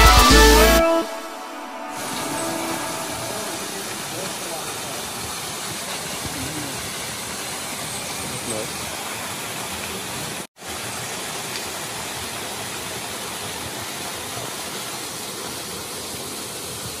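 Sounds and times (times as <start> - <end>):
waterfall splashing into pool: 2.0 - 17.0.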